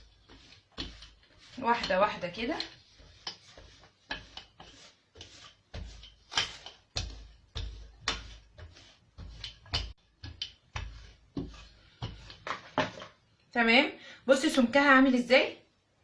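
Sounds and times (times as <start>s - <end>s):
rolling pin on dough: 0.0s - 13.2s.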